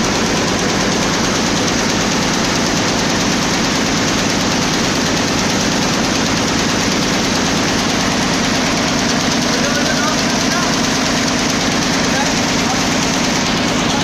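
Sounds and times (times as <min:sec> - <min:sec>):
embroidery machines clattering: 0:00.0 - 0:14.0.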